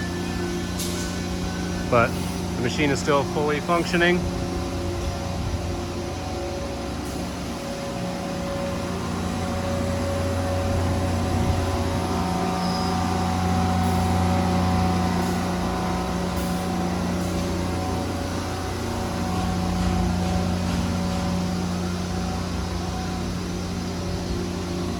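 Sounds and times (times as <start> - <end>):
lathe machine hum: 0.0 - 24.9.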